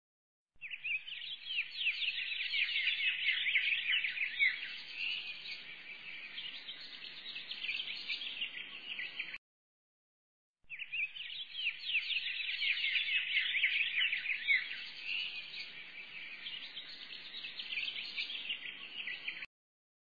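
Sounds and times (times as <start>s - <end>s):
small birds twittering: 0.6s - 9.4s, 10.7s - 19.5s.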